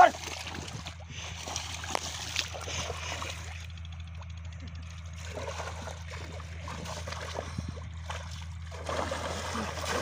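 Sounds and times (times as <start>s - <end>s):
hands splashing in muddy water: 0.0s - 3.8s, 5.1s - 10.0s
steady low hum: 0.0s - 10.0s.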